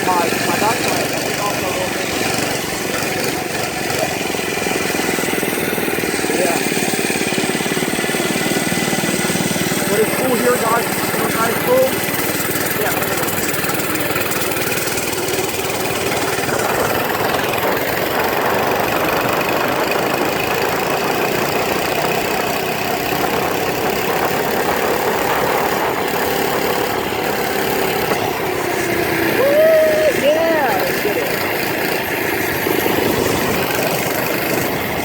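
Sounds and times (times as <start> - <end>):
mini bike engine running: 0.0 - 35.0.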